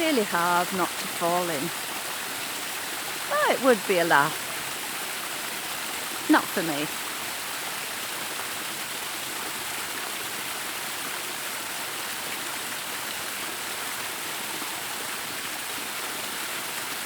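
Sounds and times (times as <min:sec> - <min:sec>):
waterfall cascading and splashing: 0:00.0 - 0:17.0.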